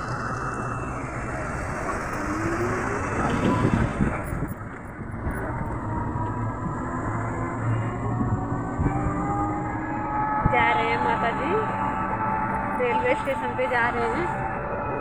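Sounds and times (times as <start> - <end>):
rickshaw rumble and road noise: 0.0 - 15.0.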